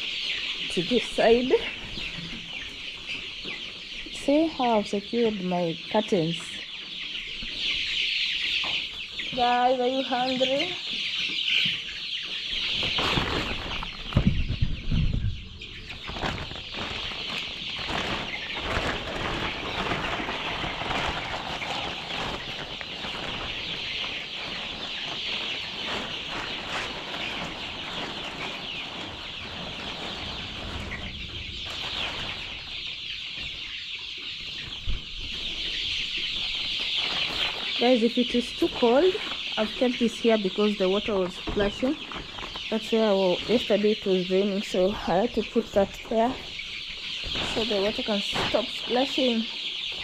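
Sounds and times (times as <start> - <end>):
hens clucking: 0.0 - 50.0.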